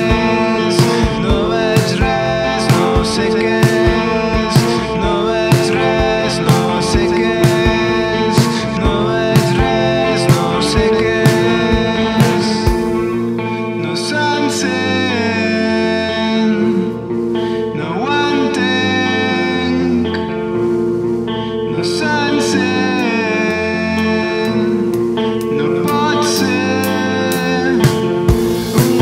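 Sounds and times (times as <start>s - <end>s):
held guitar chords: 0.0s - 29.0s
rock song with singing: 0.0s - 29.0s.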